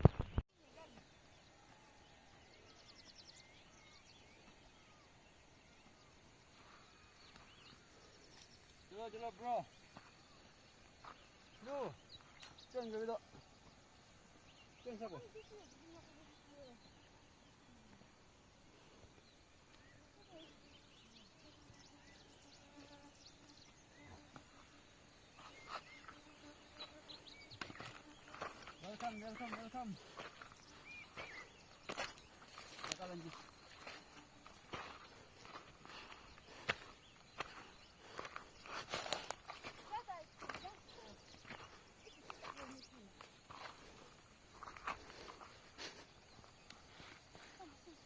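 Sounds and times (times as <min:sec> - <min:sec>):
faint rural outdoor ambience: 0:00.0 - 0:48.0.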